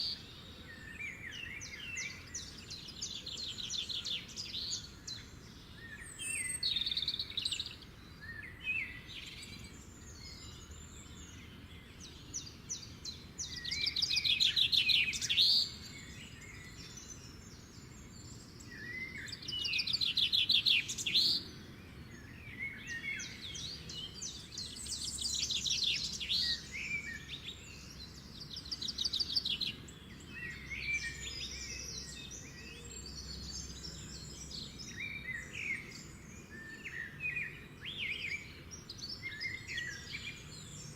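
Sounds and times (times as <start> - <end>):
birds chirping and trilling: 0.0 - 40.9.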